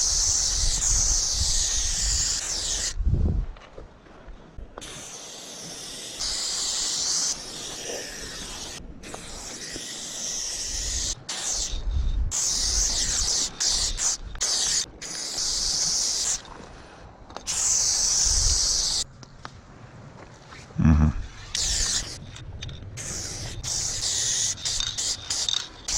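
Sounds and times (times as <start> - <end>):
spray paint can hissing: 0.0 - 3.0, 4.8 - 16.5, 17.4 - 19.0, 21.2 - 25.9.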